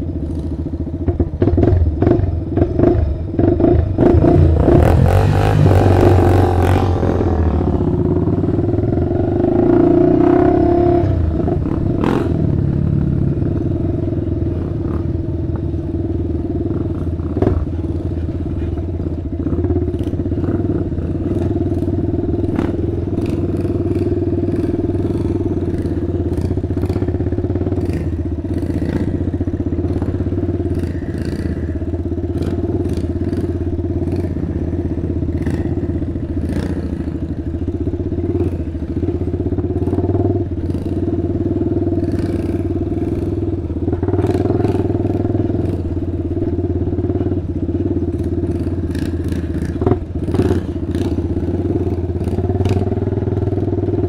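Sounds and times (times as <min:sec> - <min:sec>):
quad engine running: 0:00.0 - 0:54.0
knocks and clatter over bumps: 0:00.2 - 0:07.3, 0:14.4 - 0:41.1, 0:42.0 - 0:54.0.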